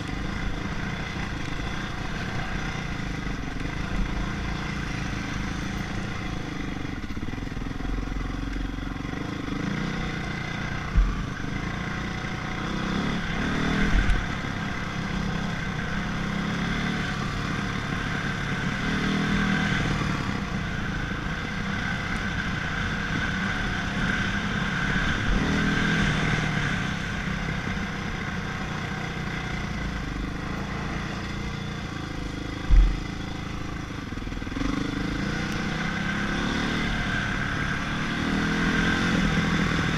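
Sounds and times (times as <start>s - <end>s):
motocross bike engine running: 0.0s - 39.9s.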